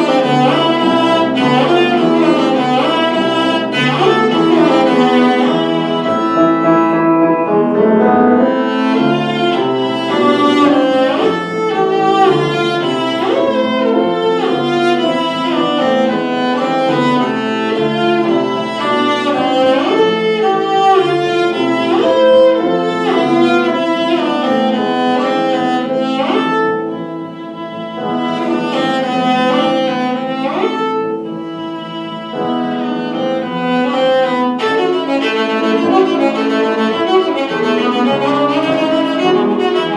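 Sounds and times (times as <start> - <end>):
bowed string instrument playing: 0.0 - 39.9.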